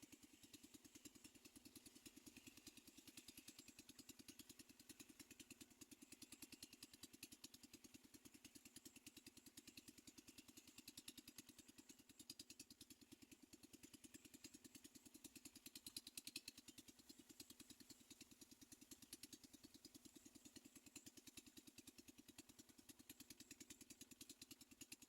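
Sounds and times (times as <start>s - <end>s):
faint small engine idling: 0.0s - 25.0s.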